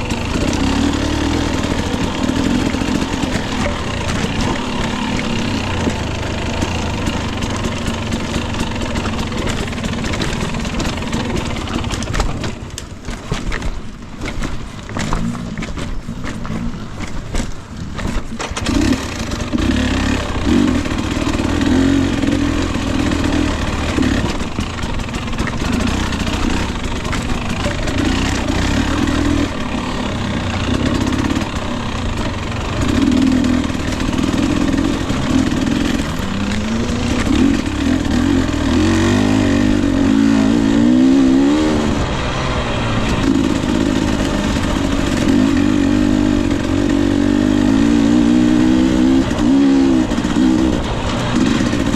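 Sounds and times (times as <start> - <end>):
dirt bike engine revving: 0.0 - 13.5, 14.2 - 51.9.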